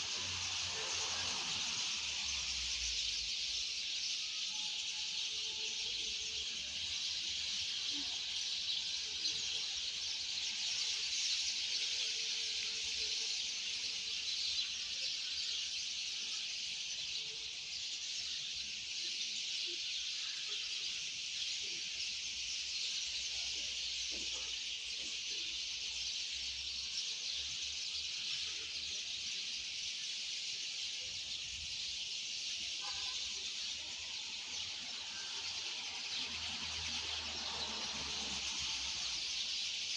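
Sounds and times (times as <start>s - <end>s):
high-pitched birdsong chorus: 0.0s - 39.9s.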